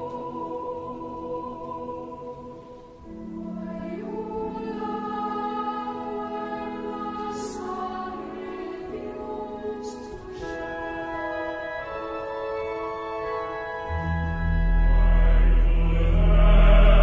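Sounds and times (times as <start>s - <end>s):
church choir singing: 0.0s - 17.0s.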